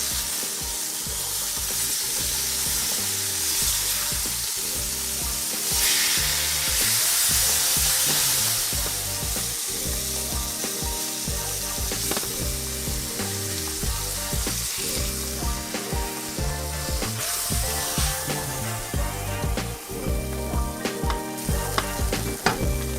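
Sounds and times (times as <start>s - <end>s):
background music with bass line: 0.0s - 22.9s
food sizzling in a pan: 0.0s - 22.9s.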